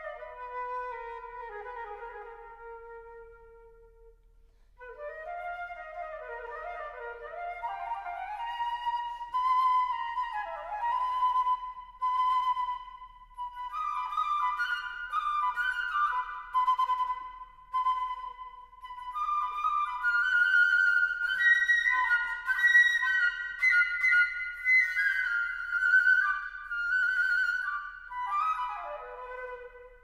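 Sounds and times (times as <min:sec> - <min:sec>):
solo flute melody: 0:00.0 - 0:30.0.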